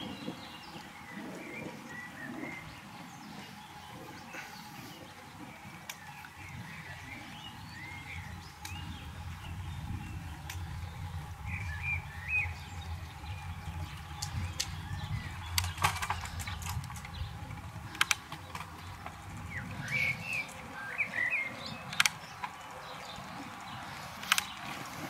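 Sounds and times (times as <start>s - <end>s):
road rumble of riding on asphalt: 0.0s - 25.0s
songbirds chirping: 0.0s - 25.0s.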